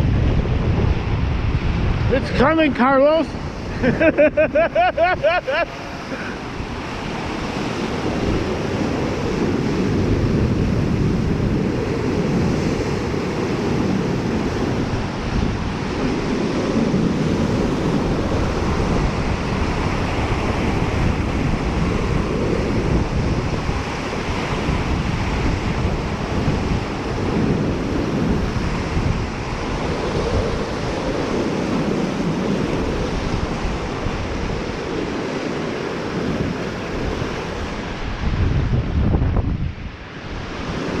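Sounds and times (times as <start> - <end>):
waves washing onto shore: 0.0 - 41.0
wind buffeting microphone: 0.0 - 41.0.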